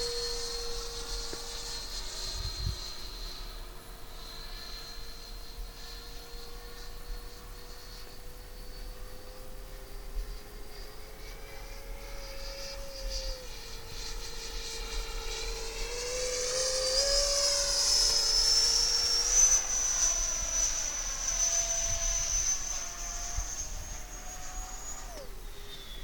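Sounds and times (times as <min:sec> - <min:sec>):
model jet whining: 0:00.0 - 0:26.0.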